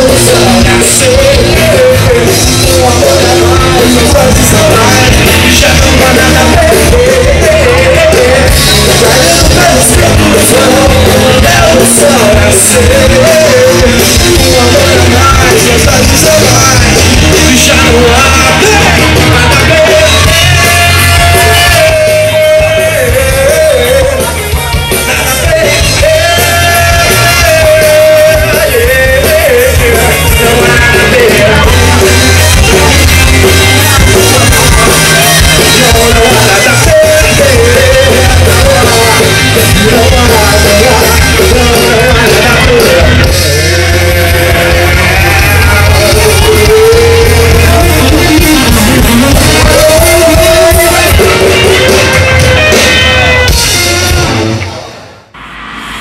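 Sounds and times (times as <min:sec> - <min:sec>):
man singing and shouting: 0:00.0 - 0:54.3
bass guitar: 0:00.0 - 0:56.0
drums: 0:00.0 - 0:56.0
electric guitar: 0:00.0 - 0:56.0.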